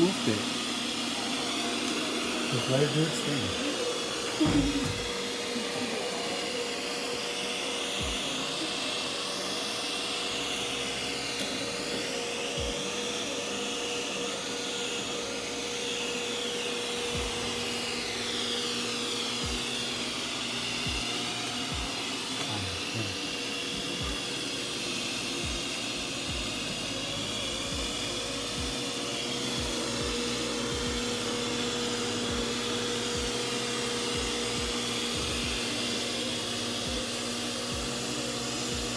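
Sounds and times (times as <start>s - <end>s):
robot vacuum motor whirring: 0.0s - 38.9s.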